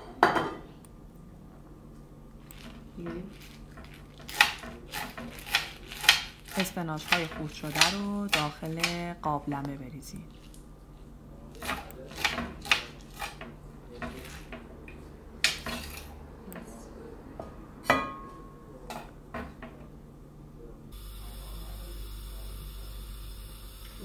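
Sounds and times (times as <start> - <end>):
steady low hum: 0.1 - 24.0.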